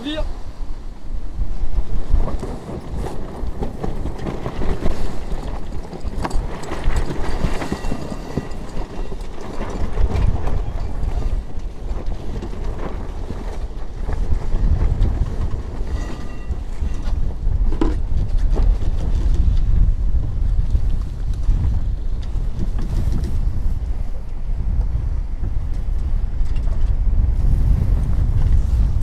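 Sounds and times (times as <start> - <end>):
water rushing along hull: 0.0 - 29.0
wind buffeting microphone: 0.0 - 29.0.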